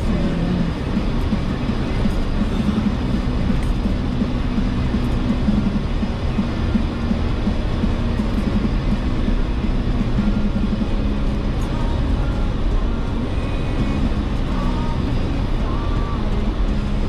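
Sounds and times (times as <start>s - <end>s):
engine and drivetrain rumble: 0.0s - 17.0s.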